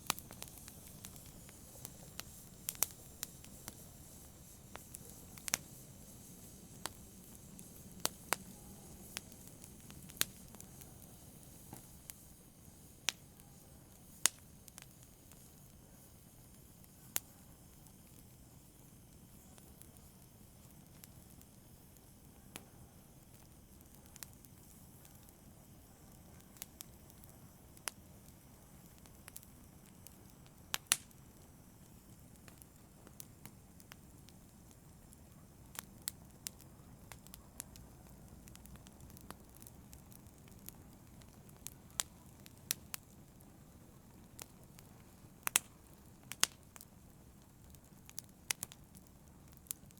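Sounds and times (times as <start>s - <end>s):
fire pops and snaps: 0.0s - 49.9s
wood fire crackling: 0.0s - 49.9s.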